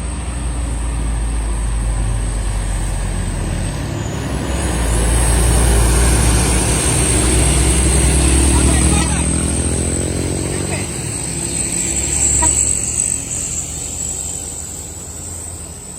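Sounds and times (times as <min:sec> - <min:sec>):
heavy trucks passing: 0:00.0 - 0:15.9
road hiss: 0:00.0 - 0:15.9.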